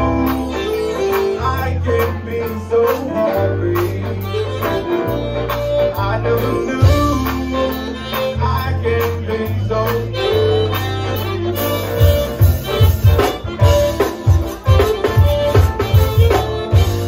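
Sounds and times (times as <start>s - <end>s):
accordion: 0.0s - 17.0s
drums: 0.0s - 17.0s
electric bass: 0.0s - 17.0s
guitar: 0.0s - 17.0s.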